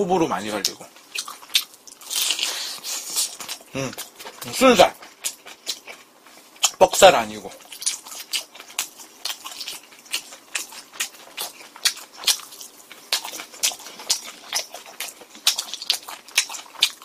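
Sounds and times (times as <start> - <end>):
crunchy chewing: 0.5 - 17.0.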